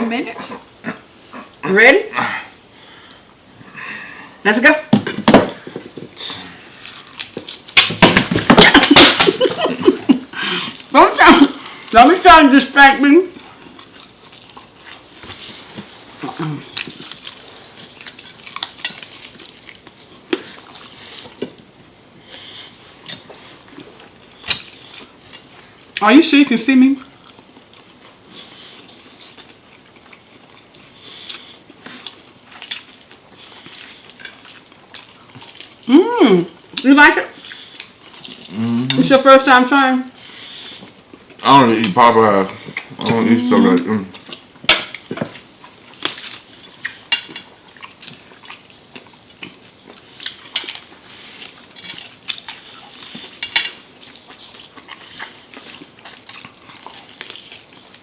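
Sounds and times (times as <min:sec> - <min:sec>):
chewing and crunching food: 0:05.6 - 0:12.3, 0:13.3 - 0:26.1, 0:27.0 - 0:35.9, 0:36.6 - 0:39.1, 0:40.1 - 0:43.2, 0:43.8 - 0:58.0.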